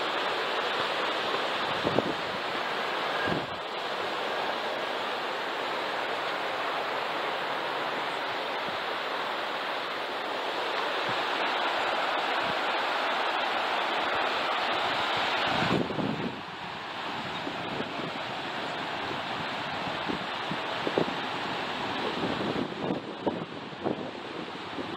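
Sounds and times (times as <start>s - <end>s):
river rushing over rocks: 0.0s - 24.9s.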